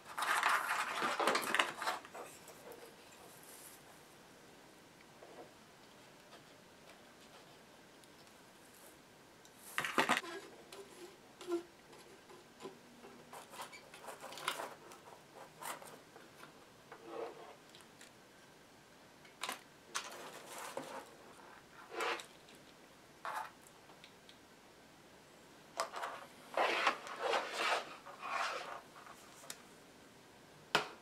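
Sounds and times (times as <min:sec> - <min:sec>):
wires rustling: 0:00.0 - 0:04.0, 0:05.2 - 0:18.5, 0:19.2 - 0:24.4, 0:25.7 - 0:29.8.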